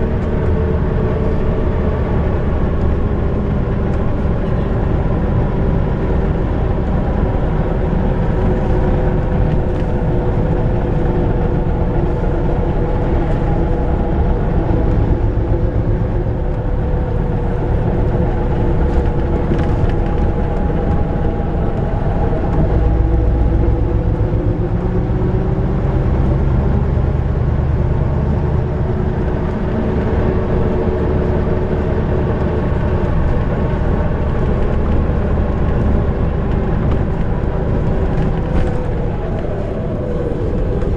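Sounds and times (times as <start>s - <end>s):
bus diesel engine drone: 0.0s - 40.9s
road rumble: 0.0s - 40.9s.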